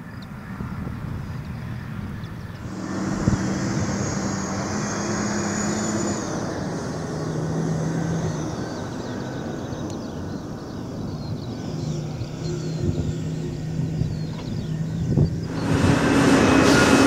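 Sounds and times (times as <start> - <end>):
diesel engine running: 1.9 - 17.0.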